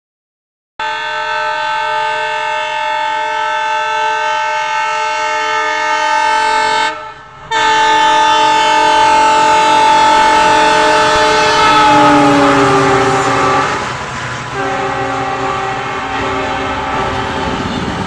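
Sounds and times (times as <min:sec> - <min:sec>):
locomotive horn blast: 0:00.8 - 0:18.0.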